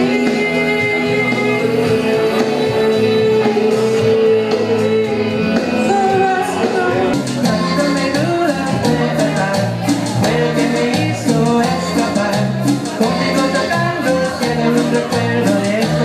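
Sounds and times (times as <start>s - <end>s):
band playing: 0.0s - 16.0s
person singing: 0.0s - 16.0s.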